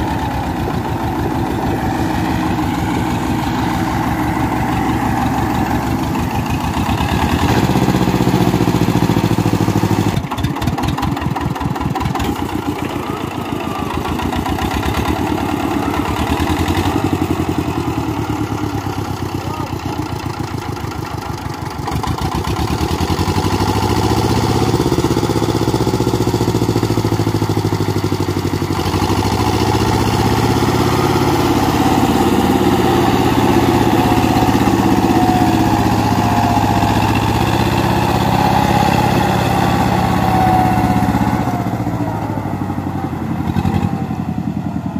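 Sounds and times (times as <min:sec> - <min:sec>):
diesel tractor engines straining: 0:00.0 - 0:44.9.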